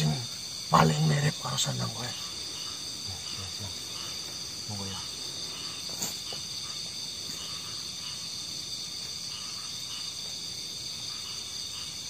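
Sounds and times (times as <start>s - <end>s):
crickets and night insects chirping: 0.0s - 12.0s.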